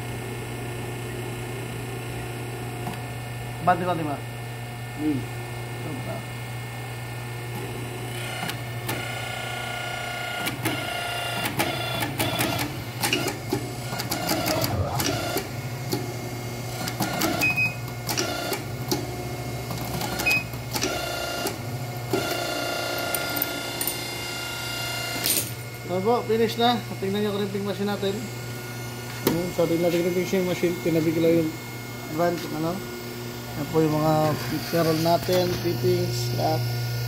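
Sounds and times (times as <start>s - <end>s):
crimping machine motor hum: 7.2s - 37.0s.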